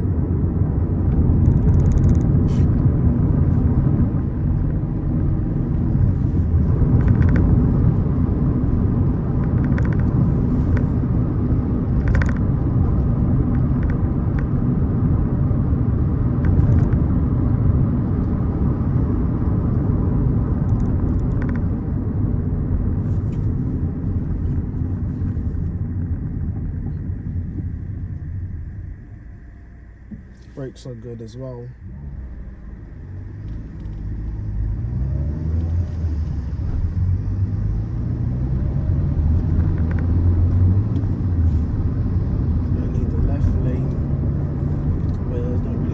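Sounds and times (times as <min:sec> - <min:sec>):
car engine and road rumble: 0:00.0 - 0:45.9.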